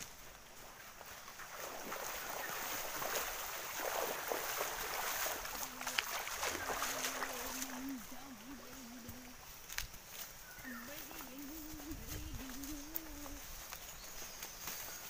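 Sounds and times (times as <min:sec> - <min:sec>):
footsteps splashing through stream: 0:00.0 - 0:15.0.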